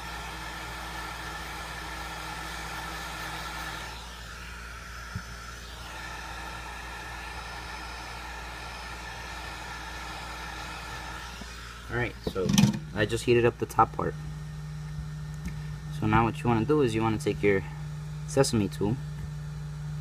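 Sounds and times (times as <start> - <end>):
heat gun hissing and whining: 0.0 - 20.0.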